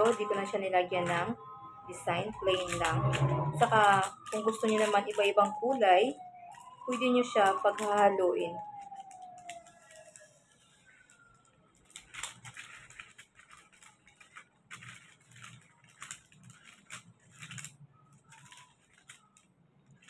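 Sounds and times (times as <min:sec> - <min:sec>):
foil paper crinkling: 0:00.0 - 0:20.0.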